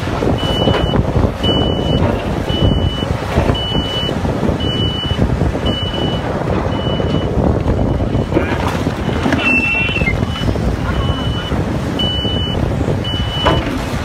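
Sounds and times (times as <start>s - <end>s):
excavator diesel engine rumble: 0.0s - 14.0s
back-up alarm beeping: 0.3s - 8.4s, 9.0s - 13.8s.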